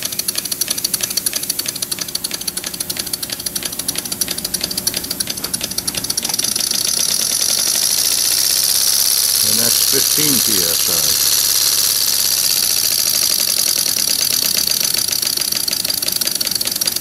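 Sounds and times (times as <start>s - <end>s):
model steam engine chuffing: 0.0s - 17.0s.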